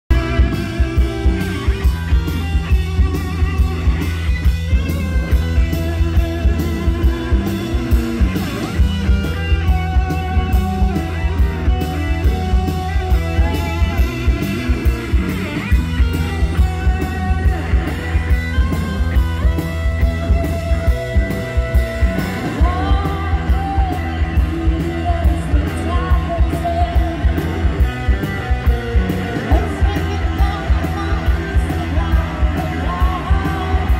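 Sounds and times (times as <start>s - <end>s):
bass guitar: 0.0s - 33.9s
electric guitar: 0.0s - 33.9s
drum kit beat: 0.1s - 33.9s
keyboard: 0.1s - 33.9s.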